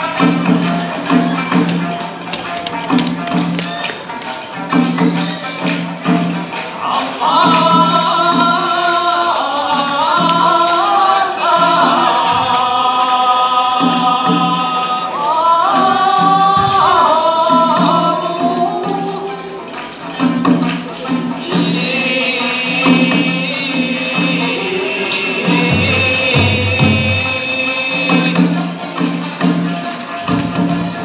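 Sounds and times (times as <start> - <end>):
plucked lute notes: 0.0 - 31.0.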